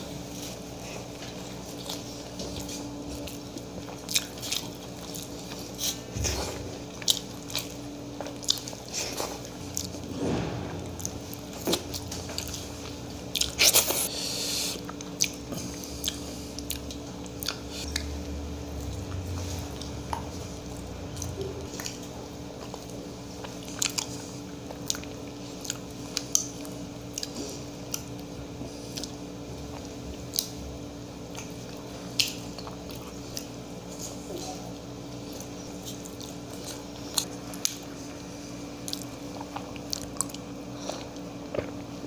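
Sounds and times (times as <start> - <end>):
man chewing soft food: 0.0 - 42.0.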